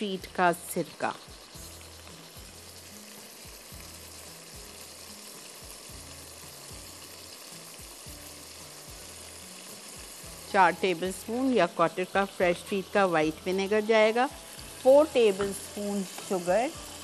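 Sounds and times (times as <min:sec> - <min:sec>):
soft music with low beat: 0:00.0 - 0:17.0
tomatoes sizzling in oil: 0:00.0 - 0:17.0.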